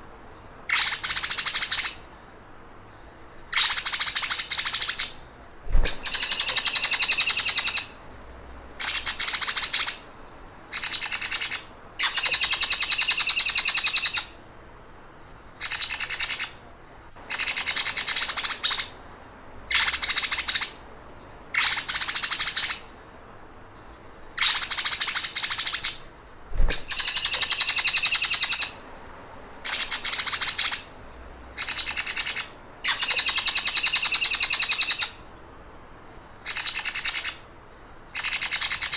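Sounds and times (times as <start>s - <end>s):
songbird buzzy rattling trill: 0.0s - 14.5s, 15.2s - 35.4s, 36.0s - 38.9s.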